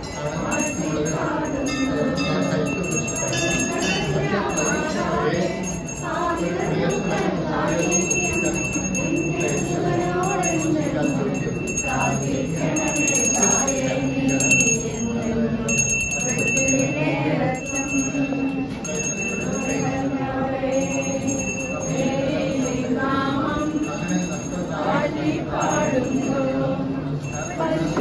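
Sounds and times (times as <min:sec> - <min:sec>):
crowd voices: 0:00.0 - 0:28.0
hand bell ringing: 0:00.0 - 0:28.0.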